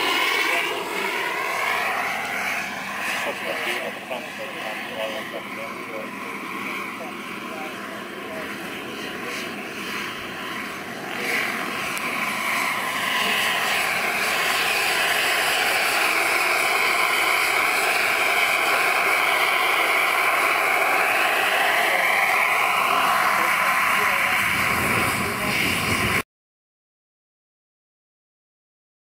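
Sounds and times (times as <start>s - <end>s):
model helicopter turbine whine: 0.0s - 26.2s.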